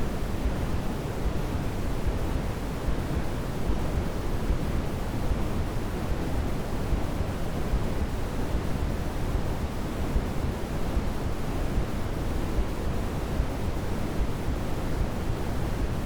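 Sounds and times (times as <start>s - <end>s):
steady pink noise hiss: 0.0s - 16.0s.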